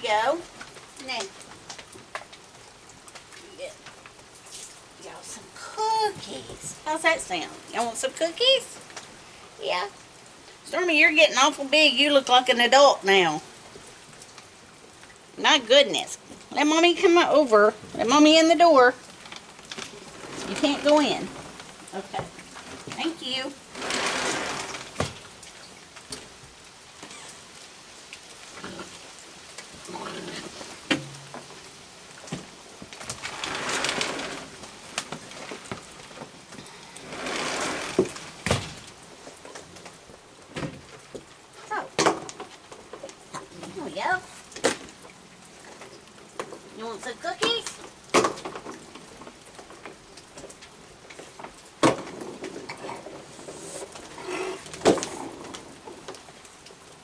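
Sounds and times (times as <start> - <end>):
rustling: 0.0 - 10.7, 17.7 - 57.0
steady rain falling: 0.0 - 57.0.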